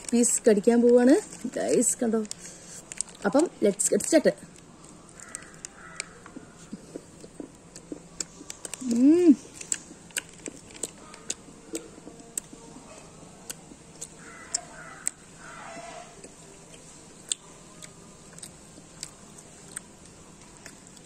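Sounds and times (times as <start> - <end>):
nuts crunching: 0.0 - 12.8, 13.4 - 21.0
chewing chocolate: 0.0 - 21.0.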